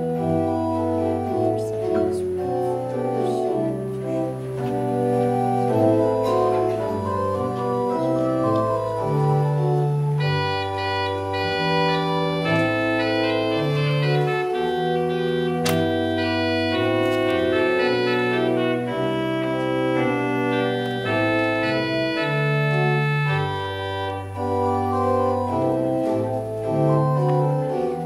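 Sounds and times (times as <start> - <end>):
church organ chords: 0.0 - 28.0.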